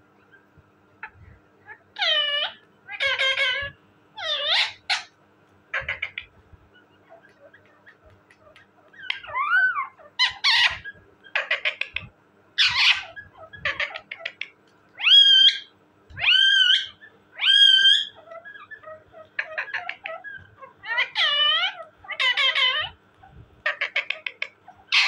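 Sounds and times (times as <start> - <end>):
parakeet squawks and calls: 0.1 - 25.0.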